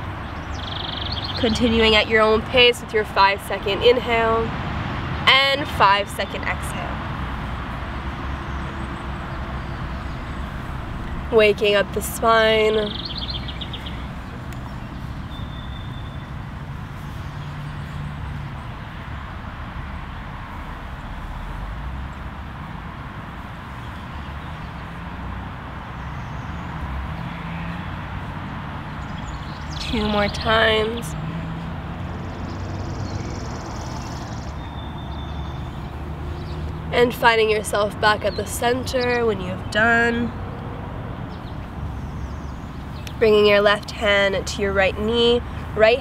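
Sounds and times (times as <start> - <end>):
low outdoor rumble: 0.0 - 46.0.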